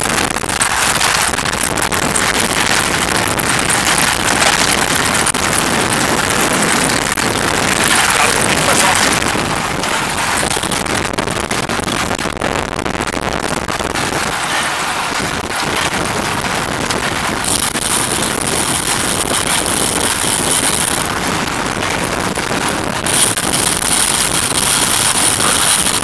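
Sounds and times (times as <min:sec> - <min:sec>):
vehicle running noise: 0:00.0 - 0:12.1, 0:13.5 - 0:26.0
wind on microphone: 0:00.0 - 0:26.0.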